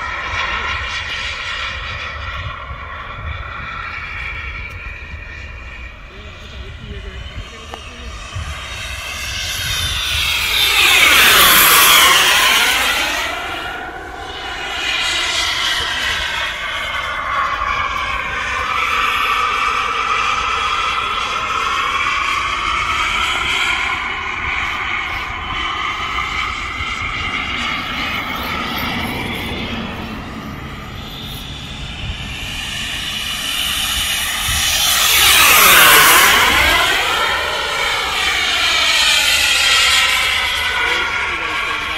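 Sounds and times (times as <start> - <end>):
model jet turbine passing overhead: 0.0 - 41.9.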